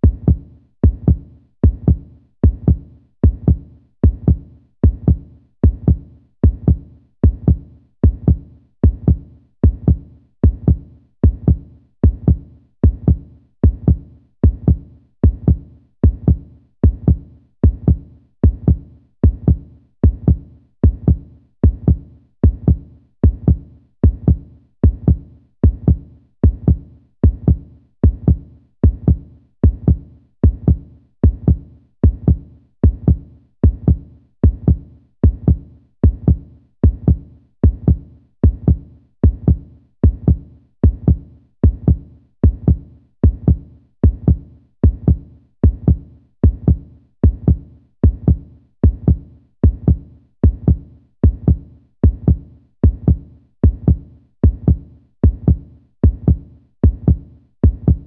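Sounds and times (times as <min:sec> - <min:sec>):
heartbeat thumps: 0:00.0 - 0:58.0.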